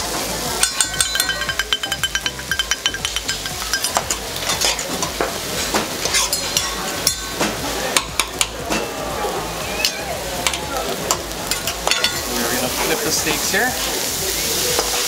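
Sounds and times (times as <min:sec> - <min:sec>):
meat sizzling on a griddle: 0:00.0 - 0:15.0
metal utensils clinking on steel: 0:00.6 - 0:09.0, 0:09.8 - 0:15.0.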